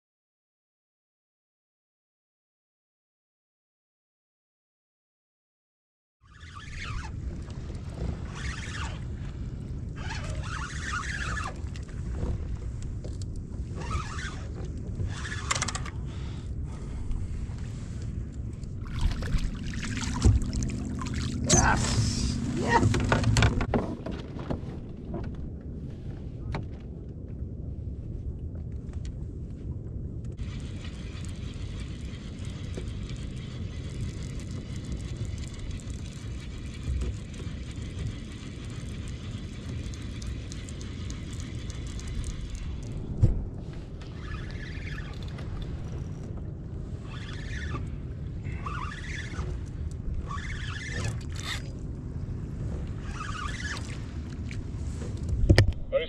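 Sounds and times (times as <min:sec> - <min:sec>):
wind rumble on microphone: 0:06.3 - 0:56.0.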